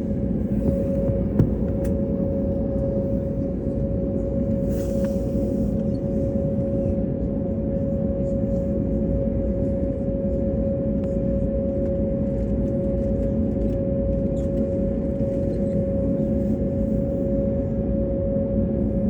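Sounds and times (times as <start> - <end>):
airliner engine drone: 0.0 - 19.0
mid-pitched hum: 0.0 - 19.0.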